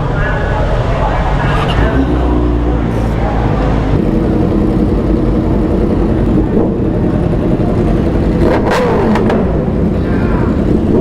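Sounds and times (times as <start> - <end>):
motorcycle engine running at low revs: 1.8 - 11.0.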